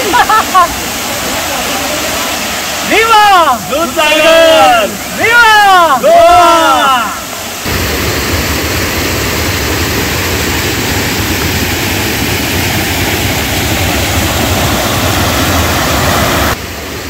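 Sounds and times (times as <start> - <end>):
waterfall rushing and crashing: 0.0 - 17.0.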